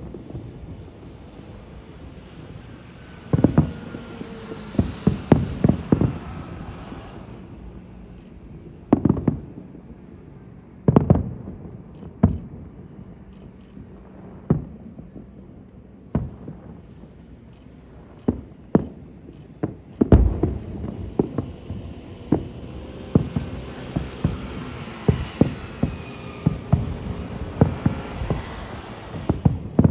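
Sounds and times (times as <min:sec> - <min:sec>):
fireworks bangs: 0:00.0 - 0:08.0, 0:10.9 - 0:13.2, 0:13.8 - 0:29.9.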